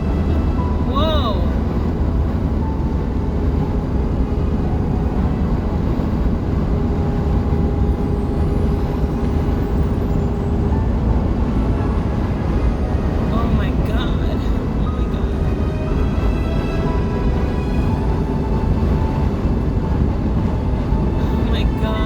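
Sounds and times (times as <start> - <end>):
road noise inside van: 0.0 - 22.0
wind: 0.0 - 22.0.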